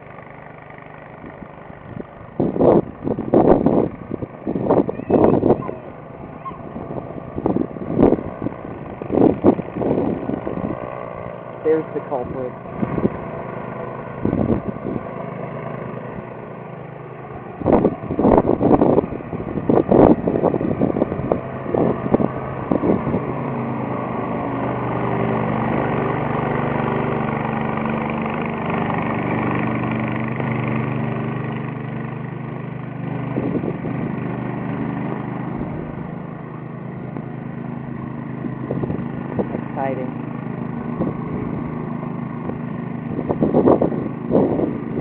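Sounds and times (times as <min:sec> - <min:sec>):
engine running: 0:00.0 - 0:45.0.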